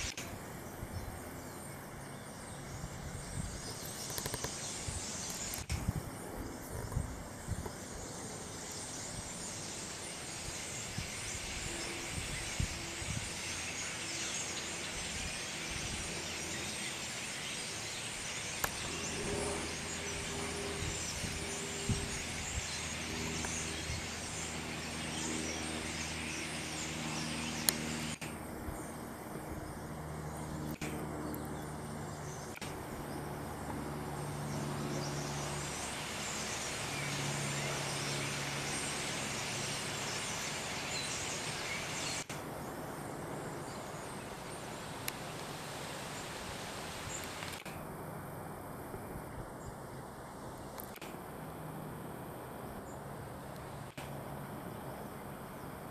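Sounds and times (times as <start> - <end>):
flock of birds chirping: 0.0 - 47.8
low engine hum: 0.0 - 55.9.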